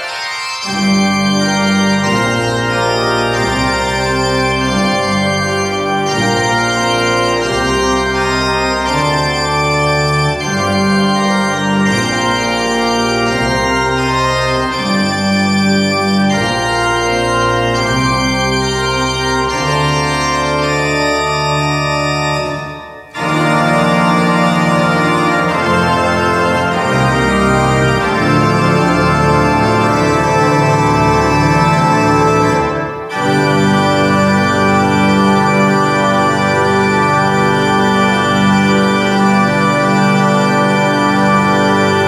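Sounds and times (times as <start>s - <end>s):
pipe organ playing chords: 0.0s - 42.0s.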